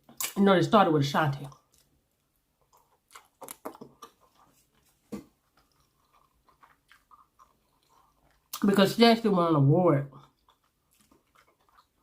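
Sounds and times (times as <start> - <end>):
person chewing food: 0.0 - 0.4, 1.4 - 8.8, 10.1 - 12.0.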